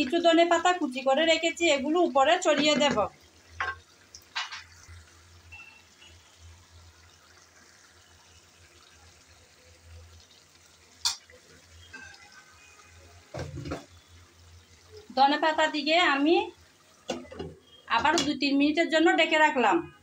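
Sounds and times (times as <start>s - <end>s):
curry bubbling in a pan: 0.0s - 19.2s.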